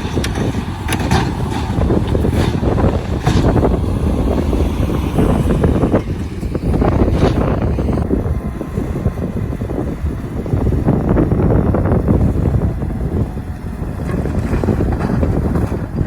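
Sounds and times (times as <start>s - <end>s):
heavy machinery rumbling: 0.0s - 16.0s
wind buffeting microphone: 0.0s - 16.0s.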